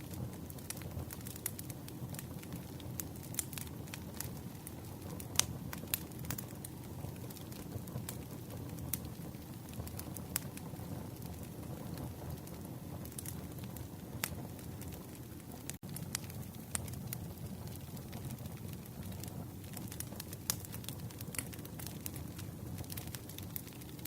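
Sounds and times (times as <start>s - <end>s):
campfire crackling: 0.0s - 24.0s
fire pops and snaps: 0.0s - 24.0s.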